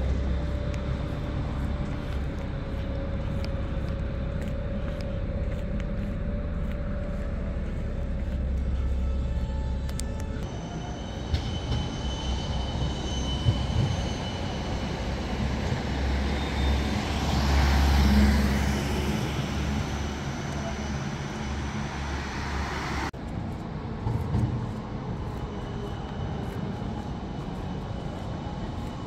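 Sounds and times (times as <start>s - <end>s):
tram rumbling on rails: 0.0s - 29.0s.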